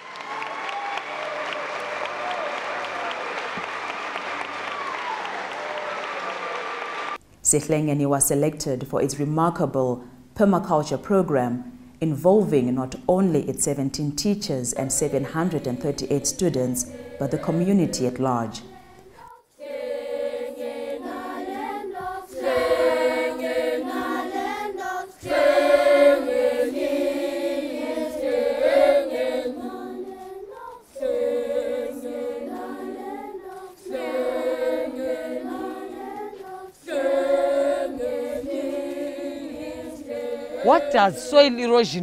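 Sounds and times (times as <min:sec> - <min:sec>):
choir singing: 0:00.0 - 0:07.2, 0:14.5 - 0:42.0.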